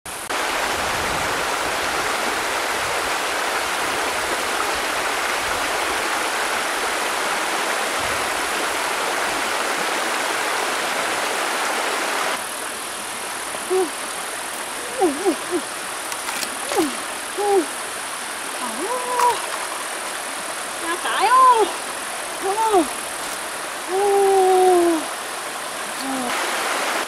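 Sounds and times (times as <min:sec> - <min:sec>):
stream rushing over rocks: 0:00.1 - 0:27.0.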